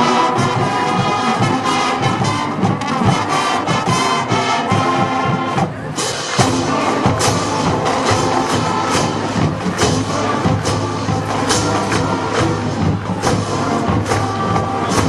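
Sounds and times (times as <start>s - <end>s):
brass instruments playing: 0.0s - 15.0s
drums: 0.0s - 15.0s.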